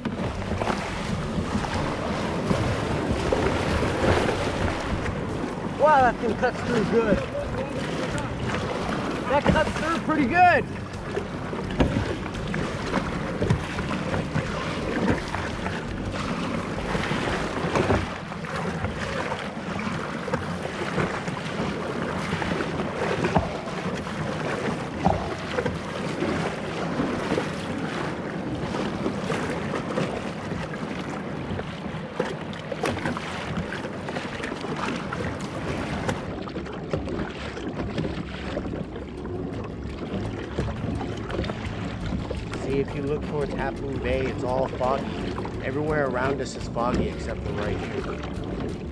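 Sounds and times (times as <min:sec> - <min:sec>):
water splashing against hull: 0:00.0 - 0:48.9
waves rushing: 0:00.0 - 0:48.9.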